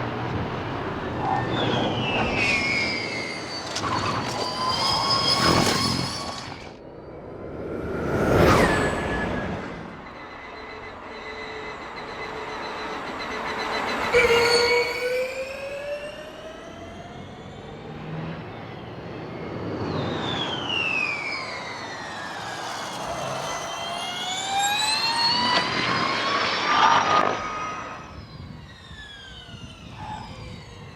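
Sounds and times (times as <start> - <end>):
electric race car whine: 0.0 - 30.9.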